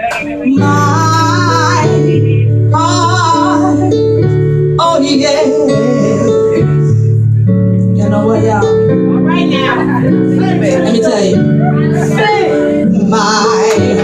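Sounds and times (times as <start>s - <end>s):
sustained instrumental chords: 0.0s - 14.0s
woman singing with vibrato: 0.4s - 4.1s, 4.8s - 7.1s, 8.0s - 14.0s.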